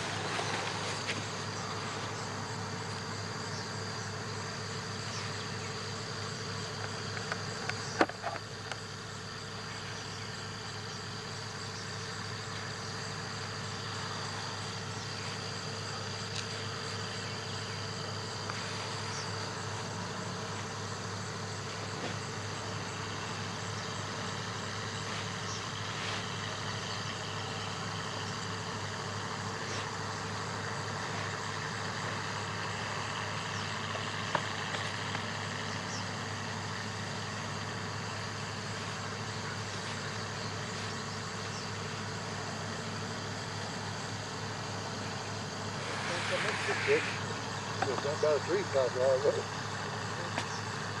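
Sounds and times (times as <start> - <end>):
high insect call: 0.0 - 51.0
low engine-like hum: 0.0 - 51.0.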